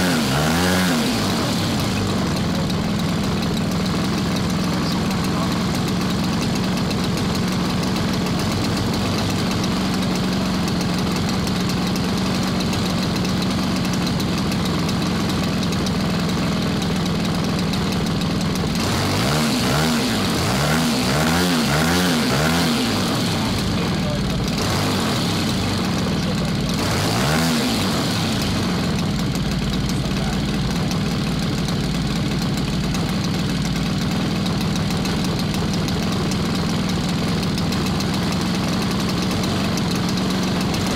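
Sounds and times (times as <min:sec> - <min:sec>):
model engine running: 0:00.0 - 0:40.9.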